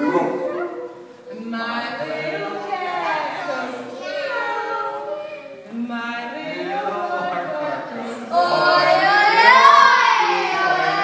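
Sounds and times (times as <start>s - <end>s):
voices singing a children's song: 0.0s - 11.0s.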